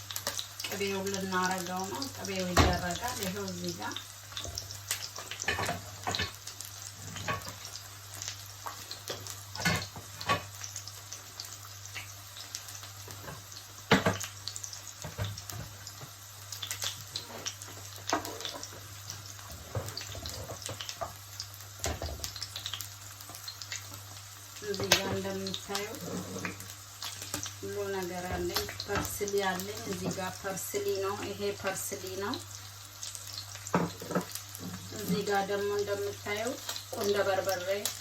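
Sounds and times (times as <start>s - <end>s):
oil sizzling in a frying pan: 0.0s - 38.0s.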